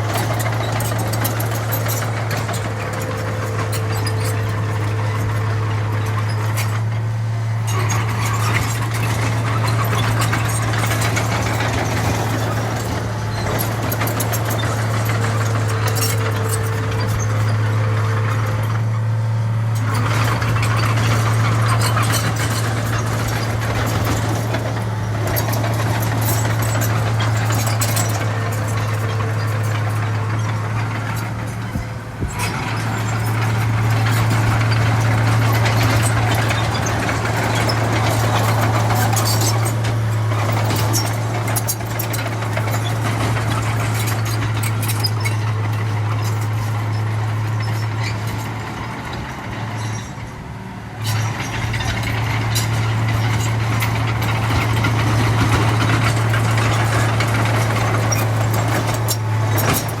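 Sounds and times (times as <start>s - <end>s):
diesel engine running under load: 0.0s - 60.0s.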